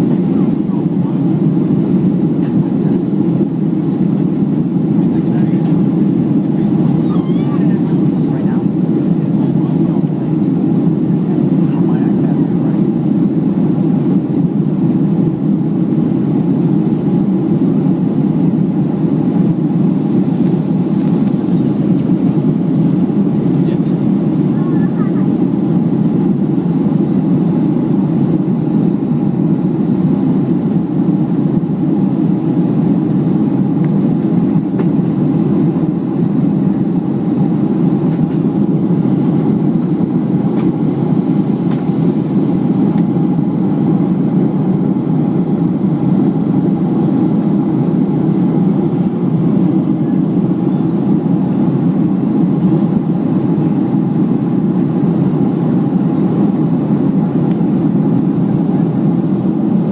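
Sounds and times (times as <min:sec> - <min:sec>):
airliner cabin engine noise: 0:00.0 - 0:59.9.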